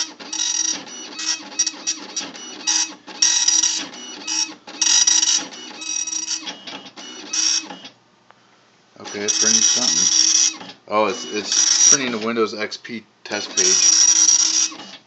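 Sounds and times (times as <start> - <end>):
dot matrix printer printing: 0.0 - 8.0, 9.0 - 12.5, 13.3 - 15.0.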